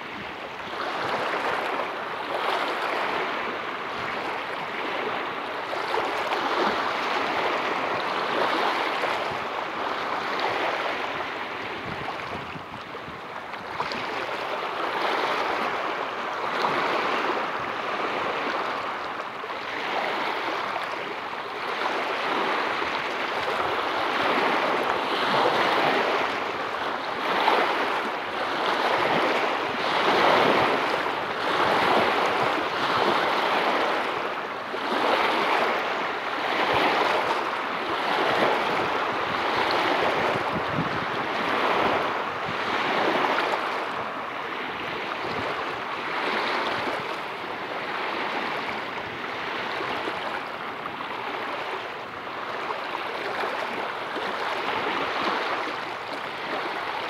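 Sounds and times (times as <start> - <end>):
waves breaking over rocks: 0.0 - 57.0.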